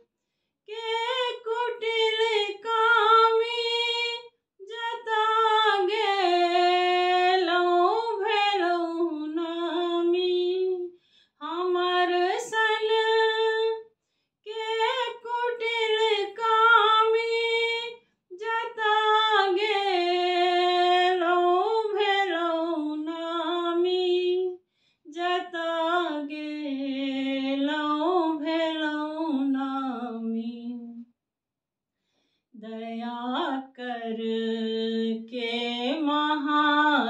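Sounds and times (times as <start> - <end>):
woman singing unaccompanied: 0.7 - 13.8, 14.5 - 24.5, 25.1 - 31.0, 32.6 - 37.0.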